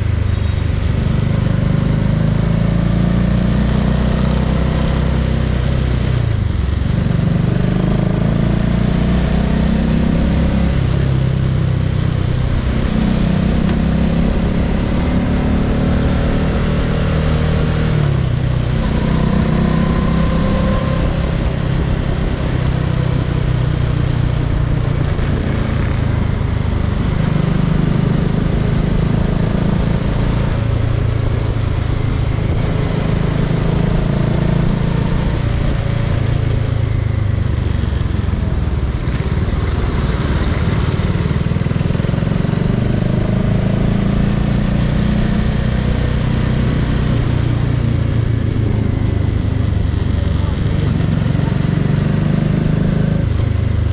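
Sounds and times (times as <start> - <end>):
motorcycle engine revving: 0.0 - 53.9
wind and road noise: 0.0 - 53.9.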